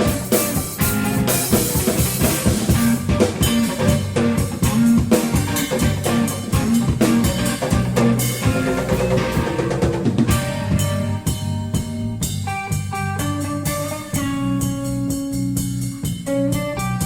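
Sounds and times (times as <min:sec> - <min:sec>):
driving drum kit: 0:00.0 - 0:17.0
electric guitar riff: 0:00.0 - 0:17.0.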